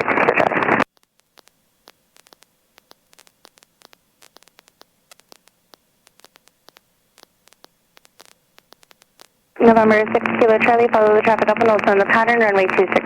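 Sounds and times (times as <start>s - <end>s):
crackling radio static clicks: 0.0s - 13.0s
faint steady hum: 0.0s - 13.0s
low hiss: 0.0s - 13.0s.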